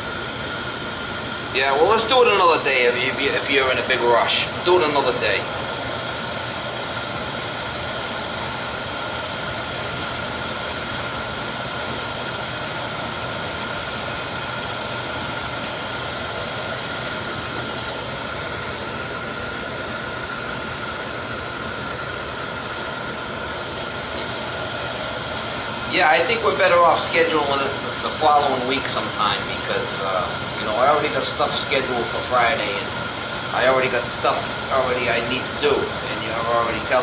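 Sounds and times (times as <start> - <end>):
oil burner blower and flame: 0.0 - 37.0.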